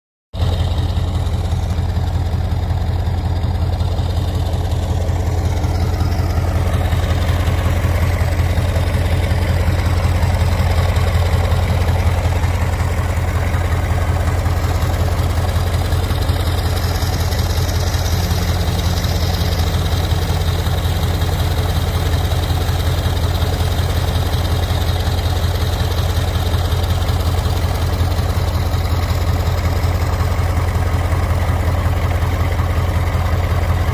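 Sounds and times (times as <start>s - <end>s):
diesel engine running steadily: 0.3s - 33.9s.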